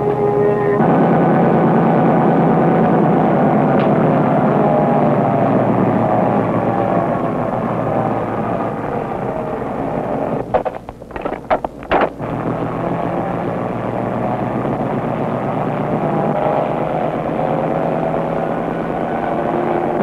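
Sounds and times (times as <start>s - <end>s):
diesel locomotive running: 0.0s - 20.0s.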